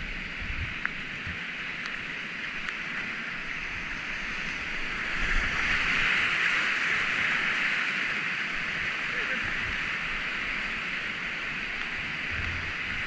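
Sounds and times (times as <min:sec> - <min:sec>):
whitewater rapids rushing: 0:01.0 - 0:13.0.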